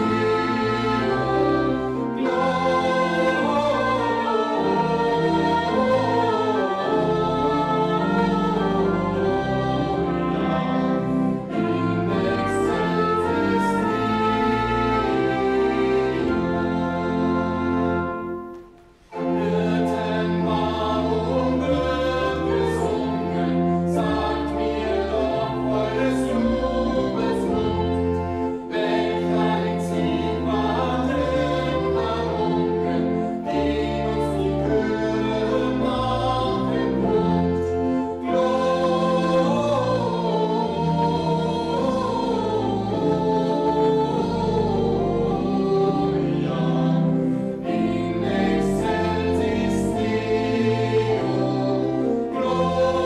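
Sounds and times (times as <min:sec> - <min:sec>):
man and woman singing a hymn: 0:00.0 - 0:53.0
pipe organ: 0:00.0 - 0:53.0.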